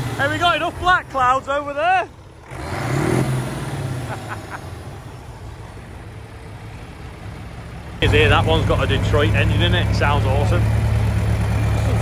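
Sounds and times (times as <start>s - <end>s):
tractor engine revving: 0.0s - 12.0s.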